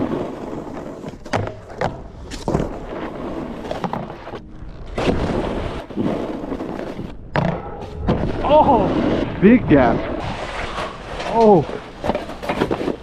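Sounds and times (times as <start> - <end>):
snowboard scraping over snow: 0.0 - 1.3, 2.0 - 7.2, 7.8 - 13.0
snowboard thumps: 0.0 - 13.0.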